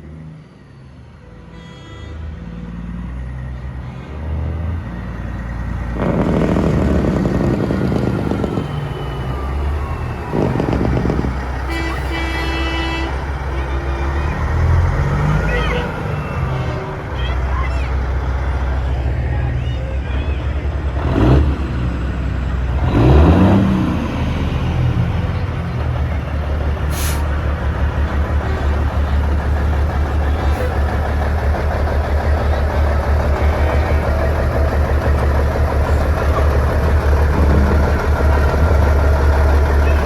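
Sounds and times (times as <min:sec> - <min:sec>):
truck diesel engines rumbling: 0:00.0 - 0:40.0.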